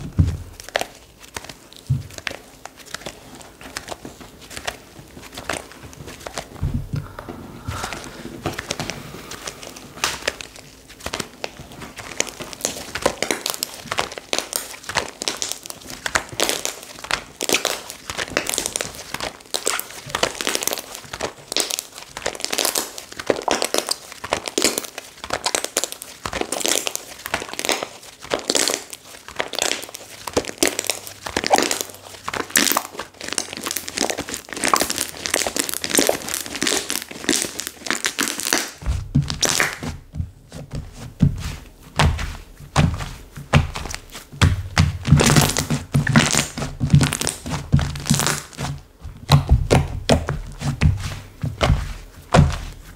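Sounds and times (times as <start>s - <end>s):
slime crackling and popping: 0.0s - 7.2s, 7.8s - 52.9s.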